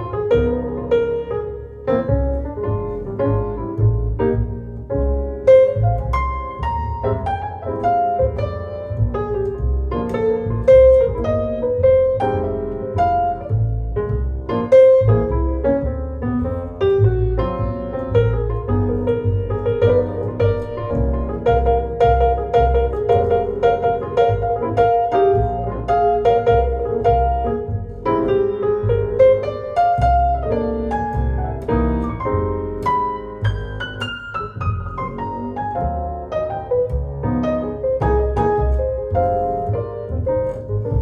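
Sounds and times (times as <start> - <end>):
blues piano and plucked bass: 0.0 - 41.0.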